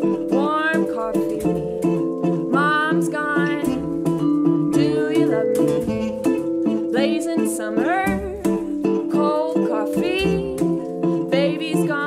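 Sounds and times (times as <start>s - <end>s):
light tapping beat: 0.0s - 12.0s
plucked double bass: 0.0s - 12.0s
strummed acoustic guitar: 0.0s - 12.0s
woman singing: 0.0s - 12.0s.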